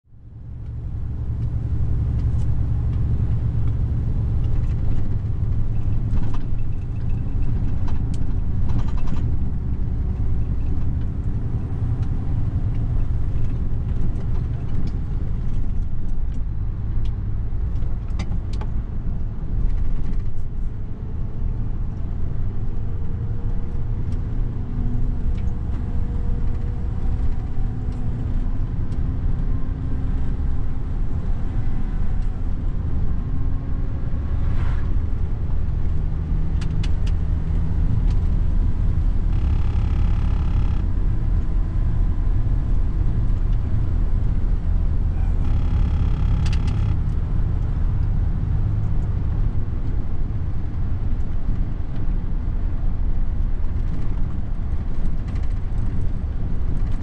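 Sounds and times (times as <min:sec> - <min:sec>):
truck engine and tyre drone: 0:00.1 - 0:57.0.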